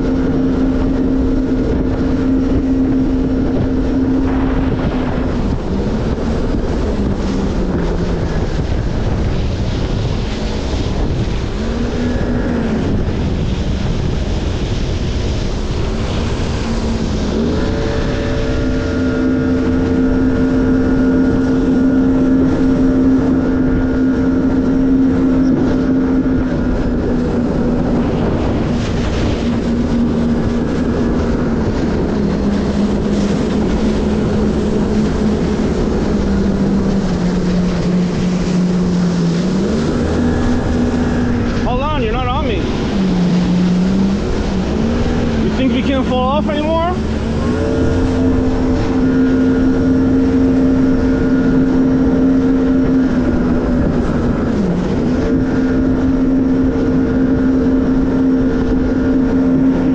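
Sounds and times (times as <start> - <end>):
jet ski engine running: 0.0 - 59.9
wind and water rushing: 0.0 - 59.9.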